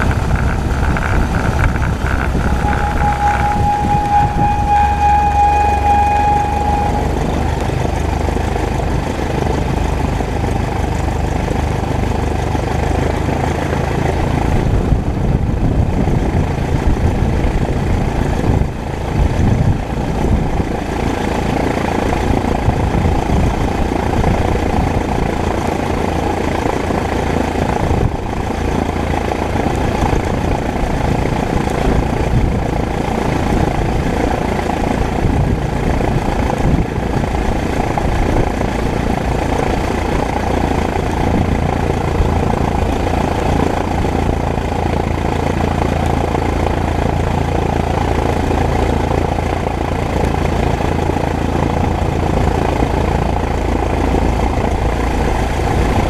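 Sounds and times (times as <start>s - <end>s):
airplane engine idling: 0.0s - 56.0s.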